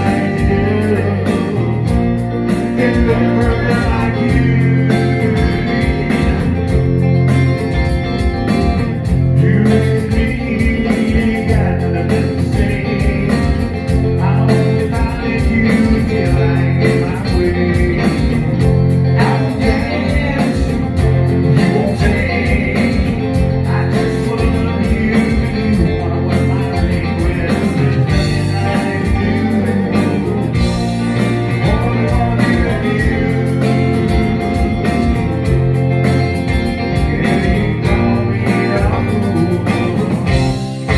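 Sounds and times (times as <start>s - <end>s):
person singing: 0.0s - 7.1s, 9.3s - 35.8s, 36.4s - 40.9s
electric bass: 0.0s - 40.9s
electric guitar: 0.0s - 40.9s.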